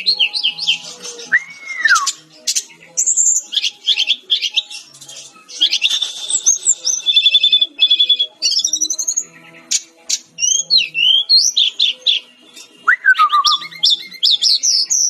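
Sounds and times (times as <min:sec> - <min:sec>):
flycatcher singing chirps and trills: 0:00.0 - 0:15.0.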